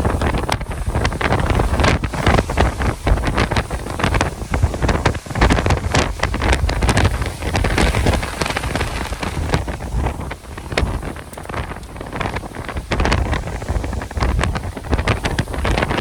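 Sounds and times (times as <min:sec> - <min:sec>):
crackles and clatters: 0:00.0 - 0:16.0
gusty wind buffeting microphone: 0:00.0 - 0:16.0.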